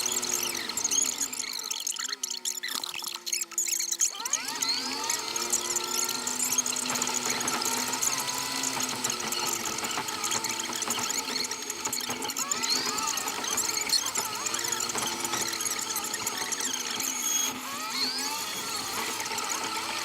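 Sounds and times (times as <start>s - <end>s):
engine whining and squealing: 0.0s - 20.0s.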